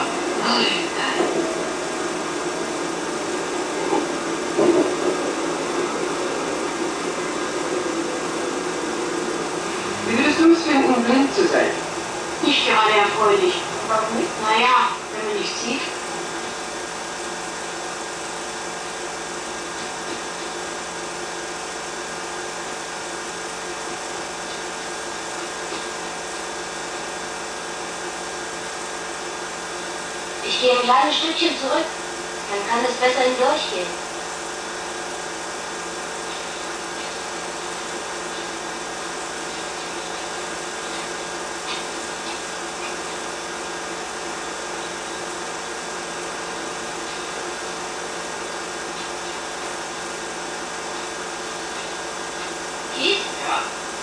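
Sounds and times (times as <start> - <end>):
constant low hum: 0.0 - 54.0
film soundtrack hiss: 0.0 - 54.0.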